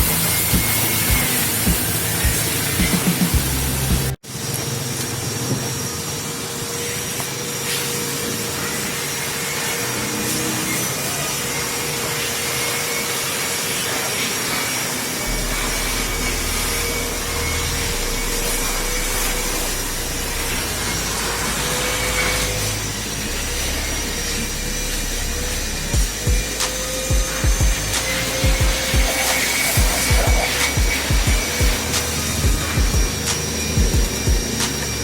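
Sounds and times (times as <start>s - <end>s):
water spray hissing: 0.0s - 4.5s, 7.6s - 35.0s
pressure washer motor whine: 0.0s - 35.0s.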